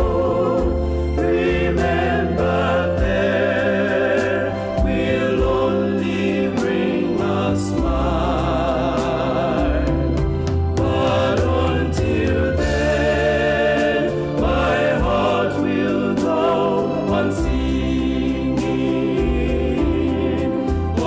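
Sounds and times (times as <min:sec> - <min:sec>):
low bass line: 0:00.0 - 0:21.0
male vocal harmony singing hymn: 0:00.0 - 0:21.0.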